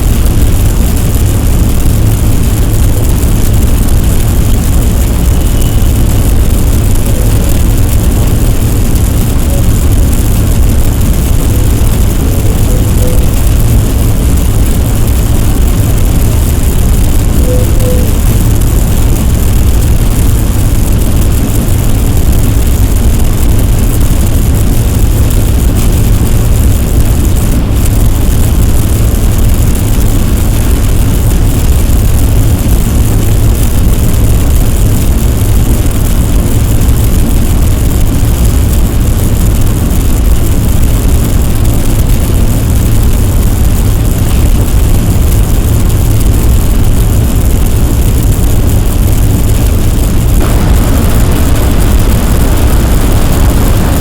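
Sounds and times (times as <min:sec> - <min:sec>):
deep steady rumbling: 0:00.0 - 0:54.0.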